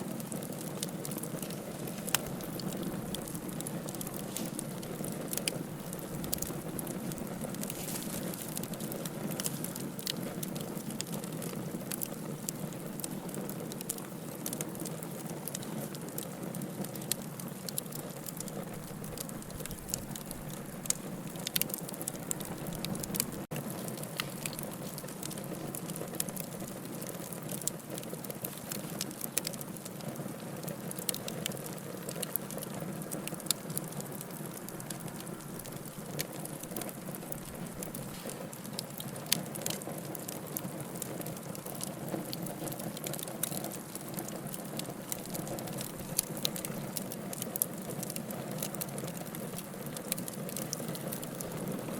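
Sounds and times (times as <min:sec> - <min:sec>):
fire crackles and pops: 0:00.0 - 0:51.9
wood logs burning: 0:00.0 - 0:51.9.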